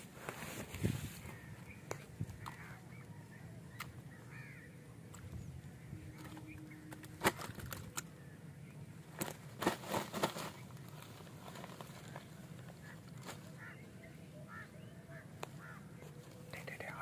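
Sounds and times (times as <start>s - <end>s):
faint bird calls: 0.9s - 9.0s, 10.4s - 17.0s.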